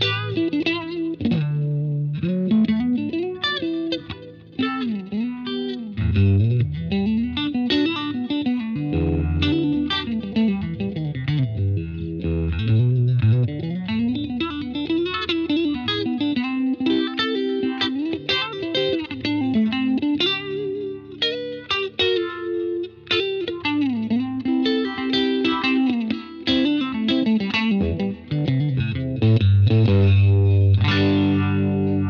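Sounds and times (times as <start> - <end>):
electric guitar with vibe effect: 0.0 - 32.0.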